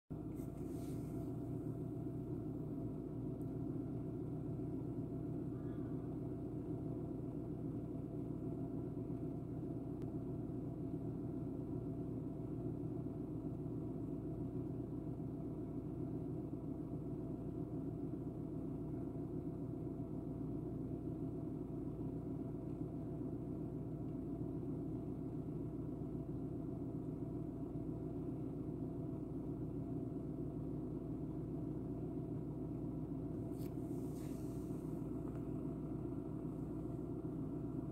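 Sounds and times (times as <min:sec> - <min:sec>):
car engine idling: 0:00.1 - 0:37.9.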